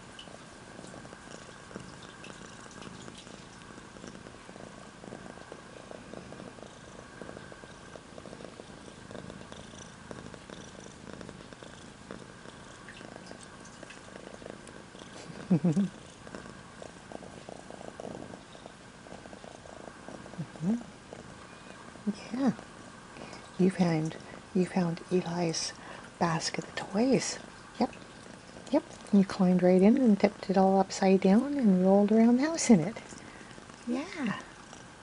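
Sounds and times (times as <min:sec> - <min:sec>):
kitten purring: 0:00.0 - 0:35.0.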